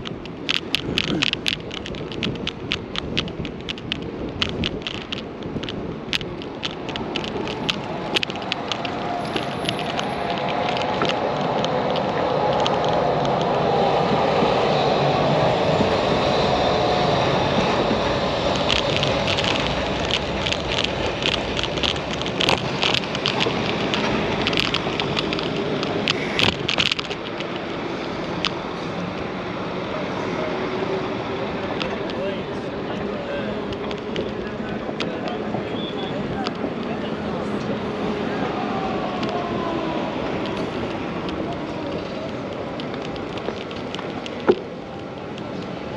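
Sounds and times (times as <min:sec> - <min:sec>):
tram passing on rails: 0:00.0 - 0:45.9
tram wheels clicking and rattling: 0:00.0 - 0:45.9.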